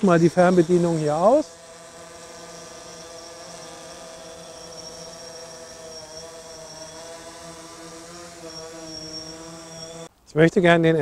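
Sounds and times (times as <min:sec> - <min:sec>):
drone propellers whining: 0:00.0 - 0:10.1.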